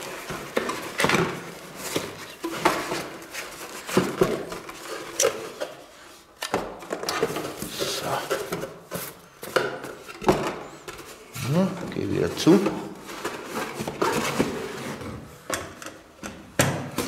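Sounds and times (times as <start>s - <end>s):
rustles and scrapes: 0.0s - 15.5s.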